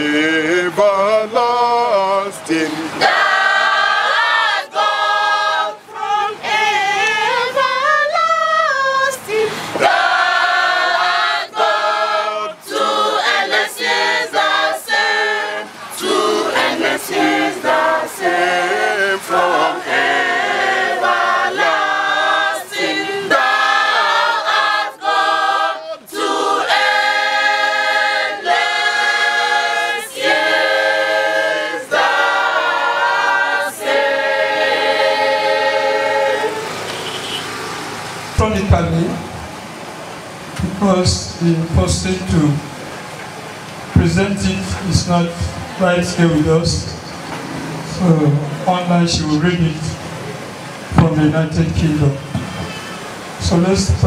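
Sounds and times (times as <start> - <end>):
mixed choir singing a hymn: 0.0 - 39.6, 43.9 - 50.0.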